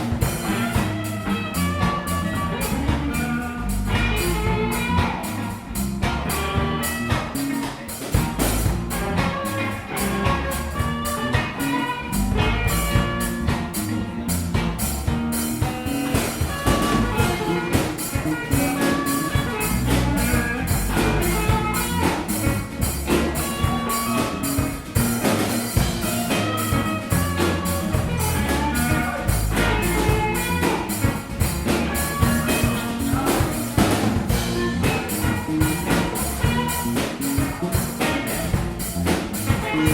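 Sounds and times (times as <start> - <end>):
bass line: 0.0 - 39.9
drum kit beat: 0.0 - 39.9.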